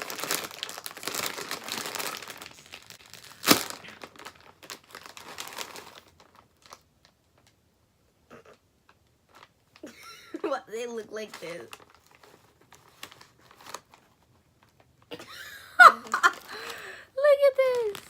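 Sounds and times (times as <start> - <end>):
plastic chip bag crinkling: 0.0 - 7.6, 8.8 - 10.0, 10.9 - 15.1, 15.8 - 18.0.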